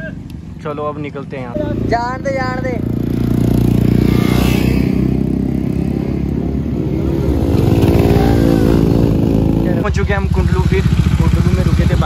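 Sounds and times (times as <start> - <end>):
motorcycle engine accelerating: 1.6 - 12.0.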